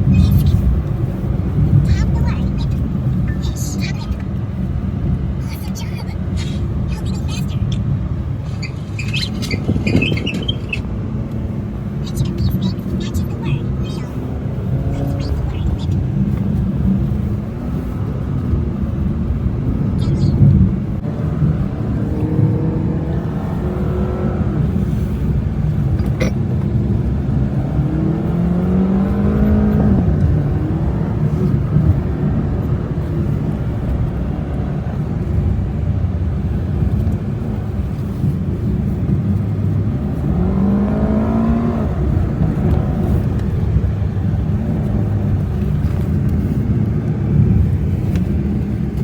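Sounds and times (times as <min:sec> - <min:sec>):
road and engine rumble: 0:00.0 - 0:49.0.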